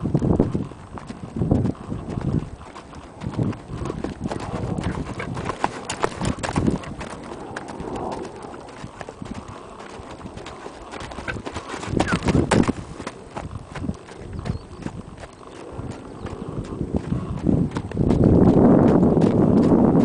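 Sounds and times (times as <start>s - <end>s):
horse hoofbeats on dirt: 0.0s - 20.0s.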